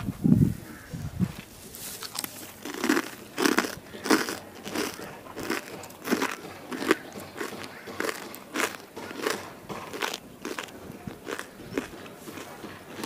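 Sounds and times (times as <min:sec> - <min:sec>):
crunchy food being chewed: 0:01.3 - 0:13.0.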